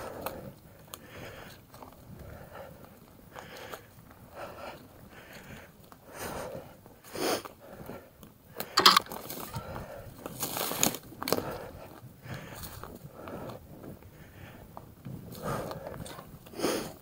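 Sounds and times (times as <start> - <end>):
rider breathing hard: 0.0 - 17.0.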